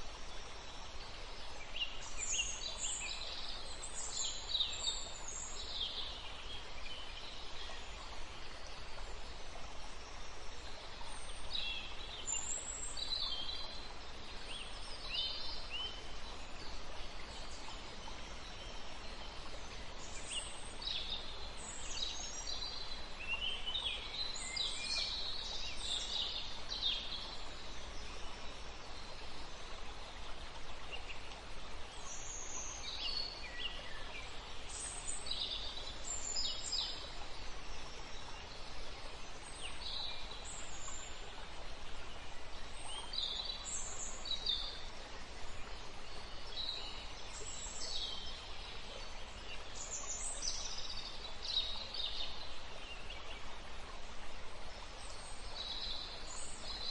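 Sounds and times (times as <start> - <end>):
steady background hiss: 0.0 - 56.9.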